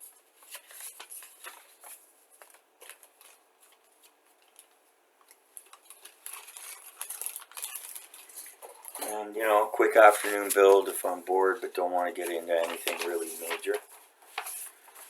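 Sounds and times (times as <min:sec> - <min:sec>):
packaging rustling: 0:00.2 - 0:11.2, 0:12.0 - 0:15.0.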